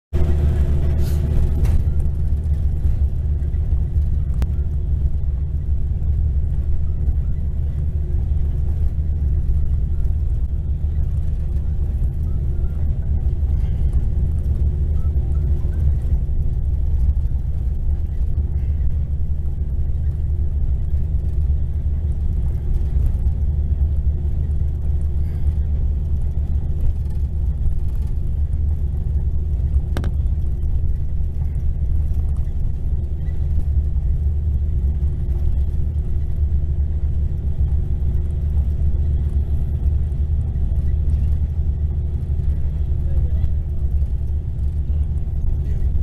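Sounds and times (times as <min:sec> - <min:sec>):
bus diesel engine droning: 0:00.1 - 0:46.0
road rumble: 0:00.1 - 0:46.0.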